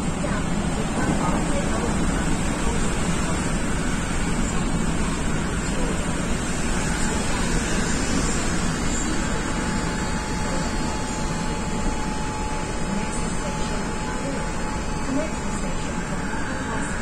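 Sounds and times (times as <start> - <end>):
faint steady whine: 0.0 - 17.0
train wheels rumbling on rail: 0.0 - 17.0.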